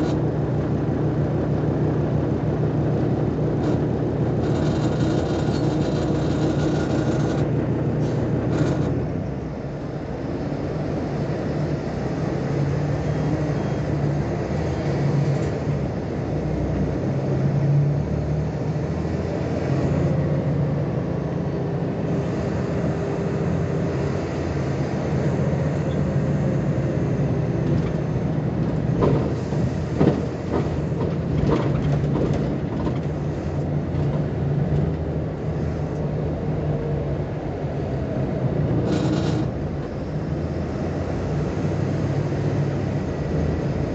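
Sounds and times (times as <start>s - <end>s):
bus diesel engine droning: 0.0s - 43.9s.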